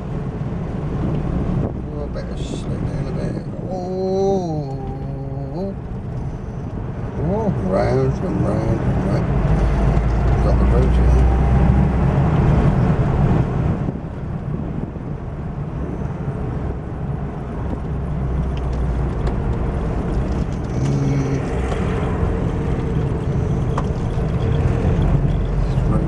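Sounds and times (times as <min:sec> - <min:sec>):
car engine: 0:00.0 - 0:26.0
road noise: 0:00.0 - 0:26.0.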